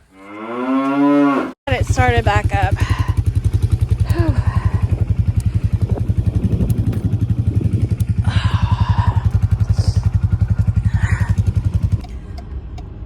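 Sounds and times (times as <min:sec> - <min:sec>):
engine clatter: 0:01.7 - 0:13.0
tractor diesel engine running: 0:01.7 - 0:13.0.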